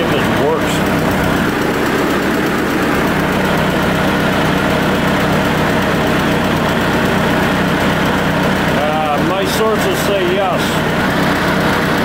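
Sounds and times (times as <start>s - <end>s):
car engine idling: 0.0s - 12.0s
electric cooling fan running: 0.0s - 12.0s.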